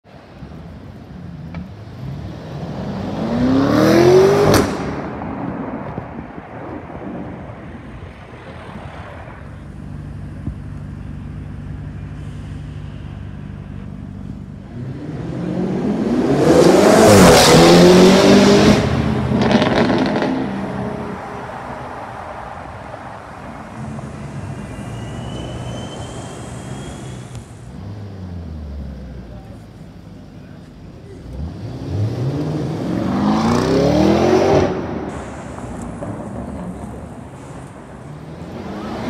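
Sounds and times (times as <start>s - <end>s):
car passing under acceleration: 1.2s - 10.2s, 14.6s - 29.2s, 31.2s - 39.0s.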